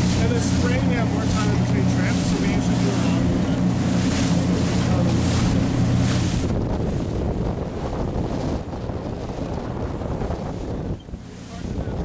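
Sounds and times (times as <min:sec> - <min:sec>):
boat engine droning: 0:00.0 - 0:12.0
wake rushing water: 0:00.0 - 0:12.0
wind buffeting microphone: 0:00.0 - 0:12.0.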